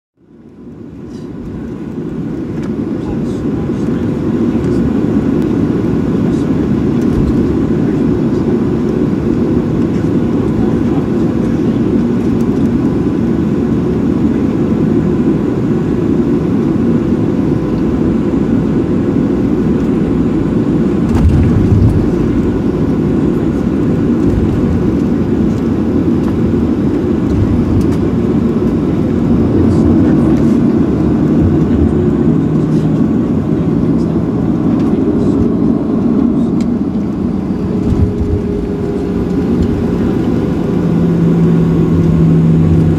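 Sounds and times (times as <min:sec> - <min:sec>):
airplane cabin engine rumble: 0:00.2 - 0:42.9.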